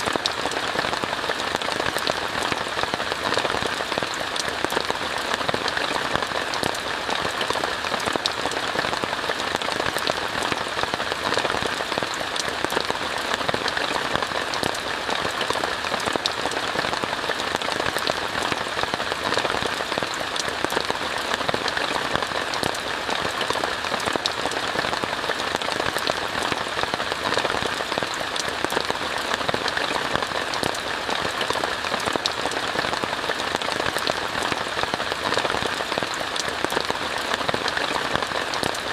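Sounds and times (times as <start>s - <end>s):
rain on tent fabric: 0.0s - 38.9s.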